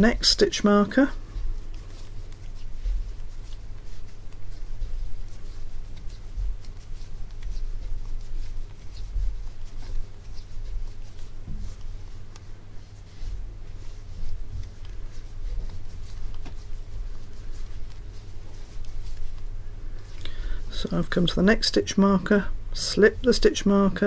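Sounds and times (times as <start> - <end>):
yarn rustling: 0.0 - 24.0.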